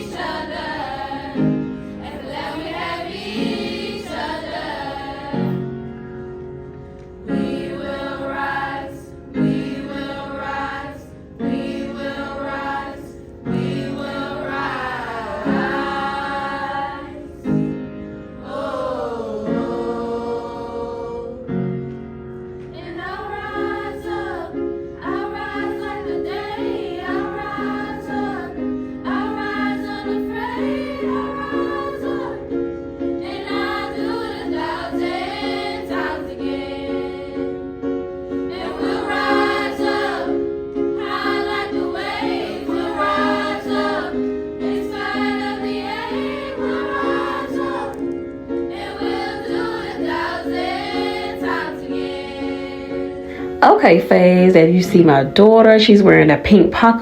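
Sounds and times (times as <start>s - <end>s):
voices singing: 0.0s - 5.7s, 7.2s - 17.5s, 18.4s - 21.5s, 22.8s - 32.6s, 33.2s - 37.5s, 38.5s - 57.0s
accompanying chords: 0.0s - 57.0s.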